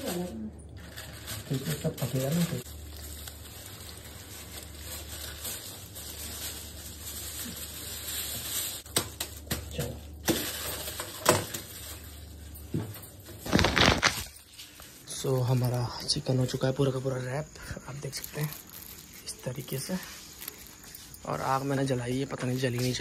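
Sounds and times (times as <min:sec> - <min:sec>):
aluminium foil crinkling: 0:00.0 - 0:23.0.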